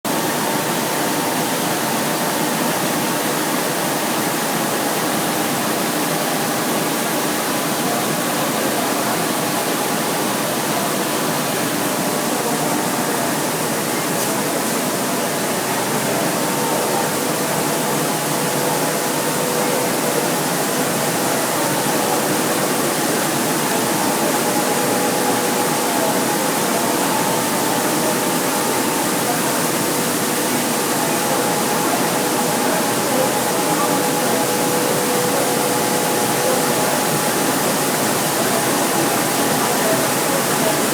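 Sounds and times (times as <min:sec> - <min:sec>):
rice milling machine running: 0:00.1 - 0:40.9.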